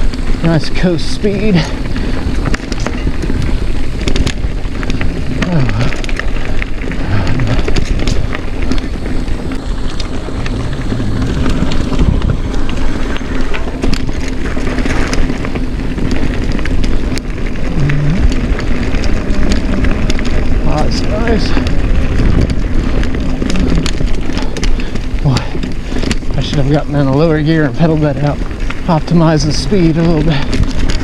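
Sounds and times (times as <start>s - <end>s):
bike clicks and rattles: 0.0s - 31.0s
bike tyre noise: 0.0s - 31.0s
wind buffeting microphone: 0.0s - 31.0s.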